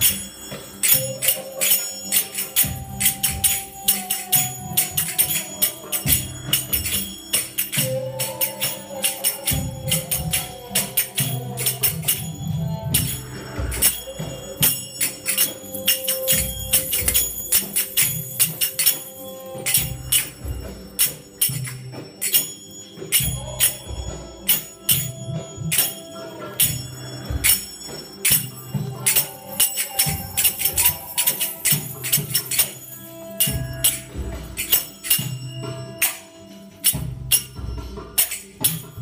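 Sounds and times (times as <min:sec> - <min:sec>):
finger cymbals clinking: 0:00.0 - 0:39.0.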